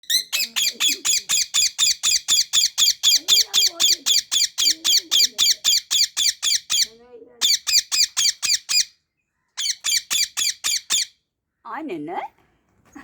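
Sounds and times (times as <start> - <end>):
parrot screeching: 0.1 - 9.0, 9.6 - 11.2.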